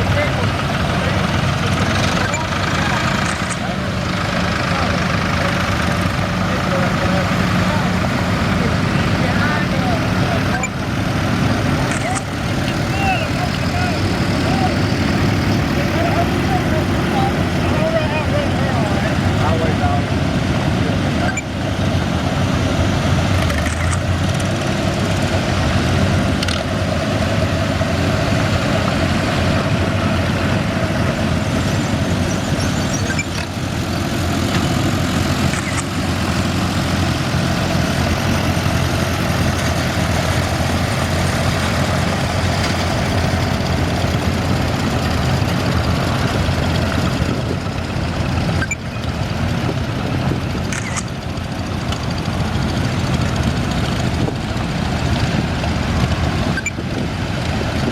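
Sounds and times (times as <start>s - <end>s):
tractor engines droning: 0.0s - 57.9s.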